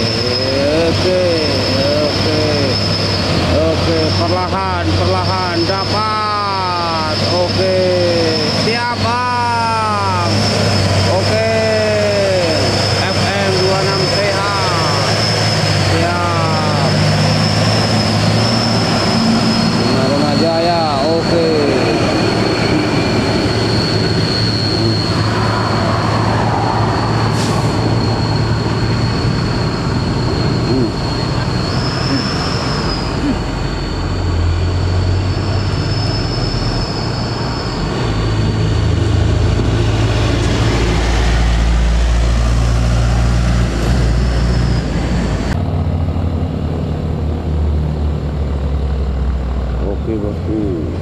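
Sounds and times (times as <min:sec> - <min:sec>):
diesel truck engine labouring: 0:00.0 - 0:51.0.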